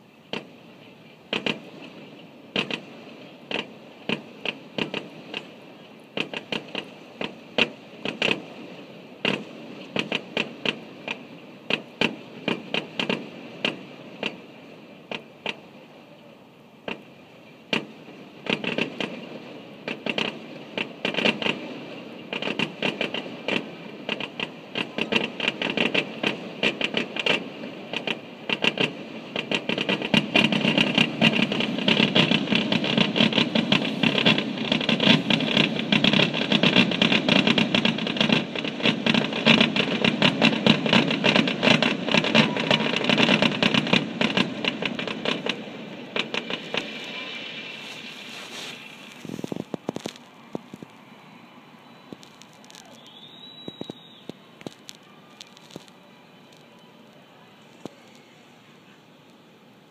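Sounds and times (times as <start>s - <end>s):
fireworks bursting: 0.0s - 15.9s, 16.8s - 58.8s.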